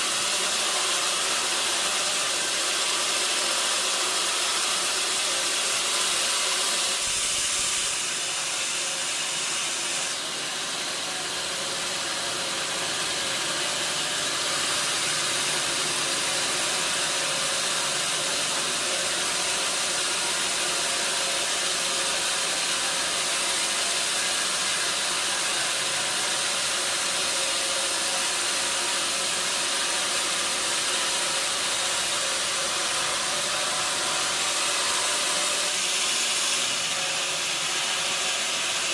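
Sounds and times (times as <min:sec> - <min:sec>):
sawmill machinery hiss: 0:00.0 - 0:38.9.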